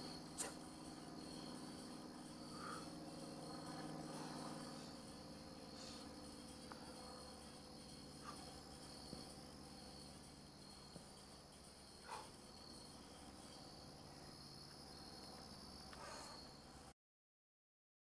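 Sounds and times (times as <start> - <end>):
crickets chirring: 0.0 - 16.9.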